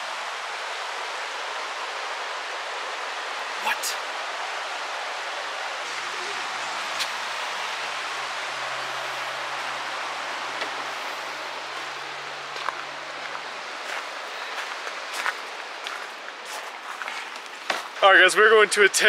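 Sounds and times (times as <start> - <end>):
river rushing over rocks: 0.0 - 18.3.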